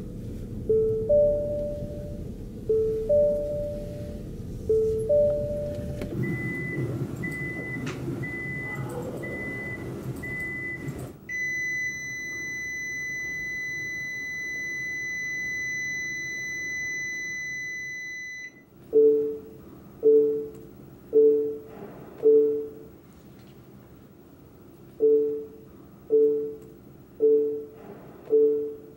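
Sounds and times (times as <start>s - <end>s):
high steady warning tone: 0.0s - 22.9s, 25.0s - 28.9s
lower two-note warning beep: 0.6s - 20.5s, 21.1s - 22.8s, 25.0s - 26.6s, 27.2s - 28.9s
short high warning beeps: 0.7s - 20.5s, 21.2s - 22.8s, 27.2s - 28.9s.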